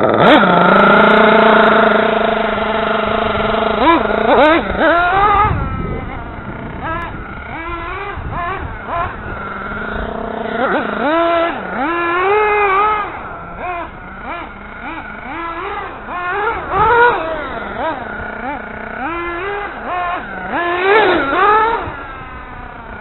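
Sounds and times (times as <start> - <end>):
toy car motor whining: 0.0 - 23.0.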